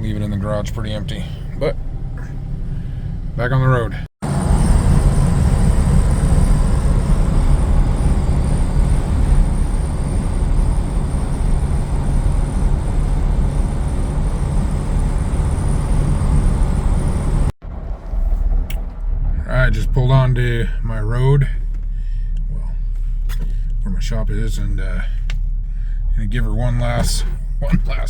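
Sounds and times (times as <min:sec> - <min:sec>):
car engine running: 0:00.0 - 0:28.0
road rumble: 0:00.0 - 0:28.0.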